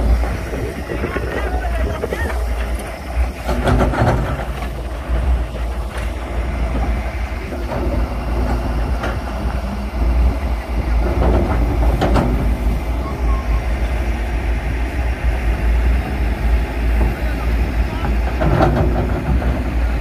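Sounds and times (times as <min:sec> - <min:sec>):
excavator diesel engines rumbling: 0:00.0 - 0:20.0.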